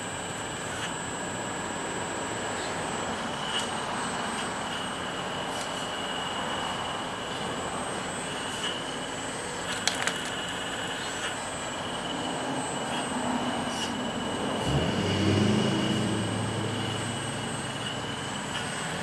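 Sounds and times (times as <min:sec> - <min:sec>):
hydraulic system whining: 0:02.6 - 0:19.0.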